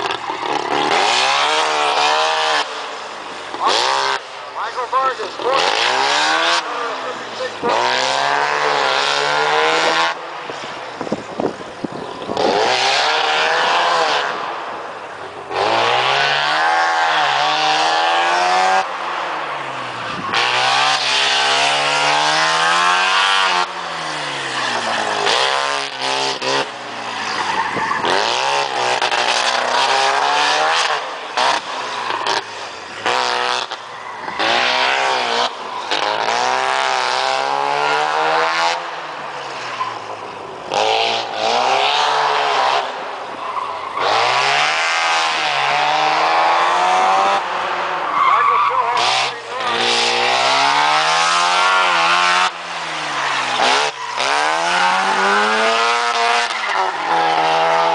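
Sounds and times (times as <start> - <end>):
loud rotary engine revving: 0.0 - 10.3, 12.2 - 14.5, 15.4 - 39.6, 40.6 - 43.2, 43.9 - 57.9.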